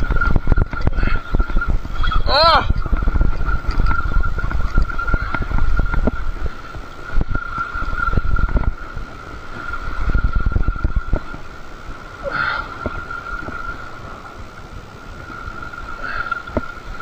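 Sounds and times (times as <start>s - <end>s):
thin steady whine: 0.0s - 17.0s
wind on microphone: 0.0s - 17.0s.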